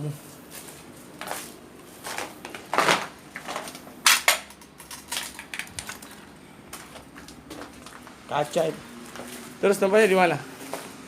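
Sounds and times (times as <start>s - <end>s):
footsteps crunching over debris: 0.1s - 4.0s, 4.8s - 11.0s.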